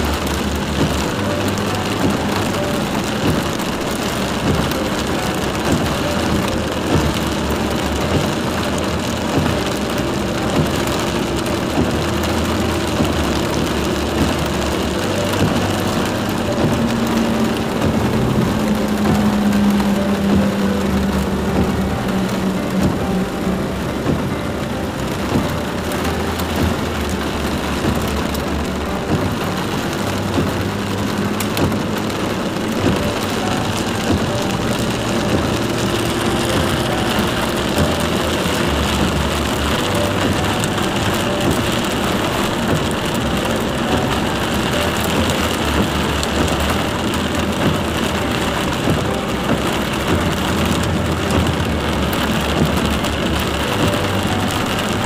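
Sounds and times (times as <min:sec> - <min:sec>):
heavy rain on car: 0:00.0 - 0:55.0
low engine hum: 0:00.0 - 0:55.0
tyres hissing on wet road: 0:00.0 - 0:55.0.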